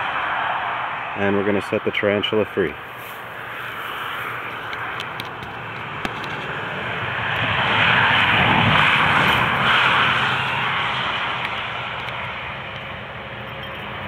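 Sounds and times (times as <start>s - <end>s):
vehicle passing on road: 0.0s - 14.0s.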